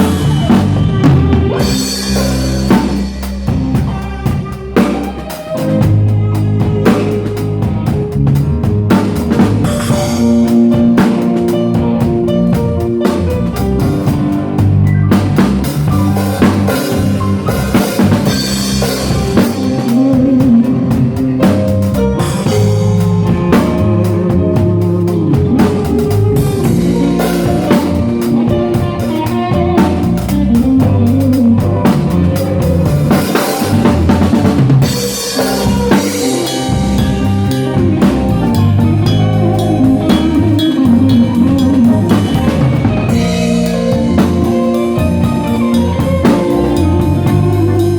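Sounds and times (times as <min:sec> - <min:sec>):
band playing: 0:00.0 - 0:47.9
sliding lead melody: 0:00.0 - 0:47.9.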